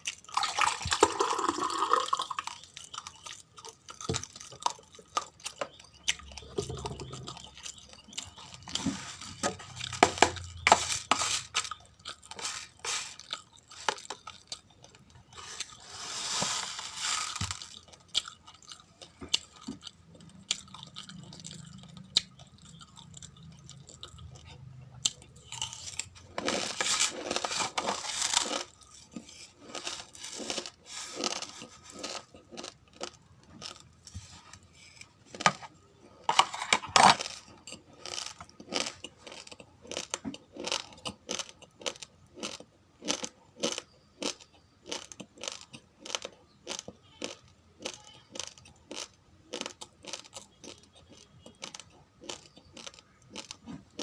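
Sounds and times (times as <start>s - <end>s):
rice grains crunching between teeth: 0.0s - 54.0s.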